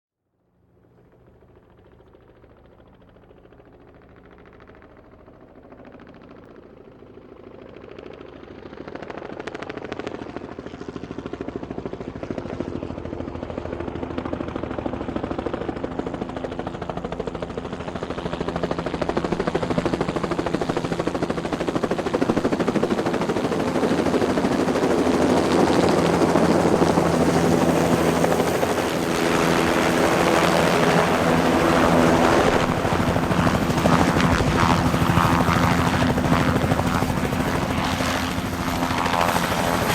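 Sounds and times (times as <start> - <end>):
helicopter rotor chop: 1.5 - 39.9.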